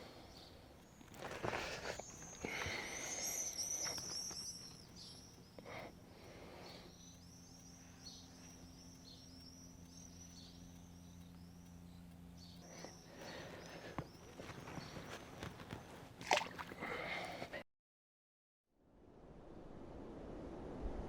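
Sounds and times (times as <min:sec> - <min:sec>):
faint low hum: 0:00.0 - 0:17.6
small birds chirping: 0:00.0 - 0:17.6.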